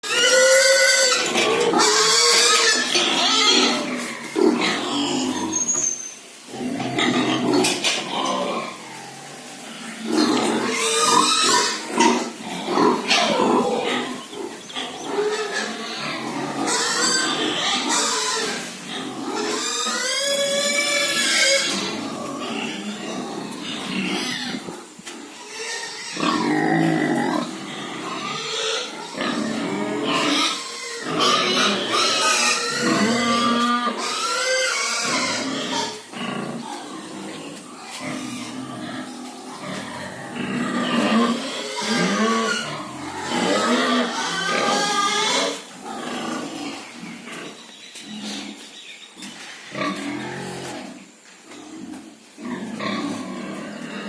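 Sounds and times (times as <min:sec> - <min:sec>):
pigs grunting and squealing: 0:00.0 - 0:54.0.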